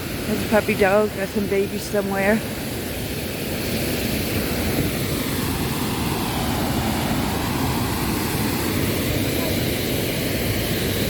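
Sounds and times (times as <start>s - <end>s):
airplane passing overhead: 0.0s - 11.0s
waterfall rushing: 0.0s - 11.0s.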